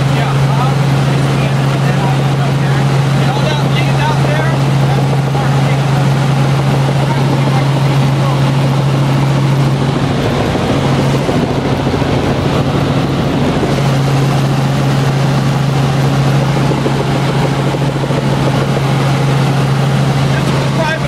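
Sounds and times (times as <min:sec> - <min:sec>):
helicopter engine and rotor noise: 0:00.0 - 0:21.0.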